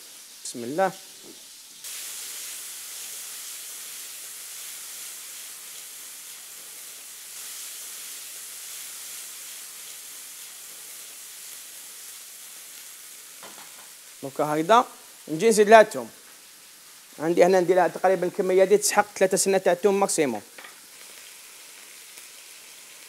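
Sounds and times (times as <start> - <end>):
shrimp sizzling in butter: 0.0 - 19.2, 19.8 - 23.0.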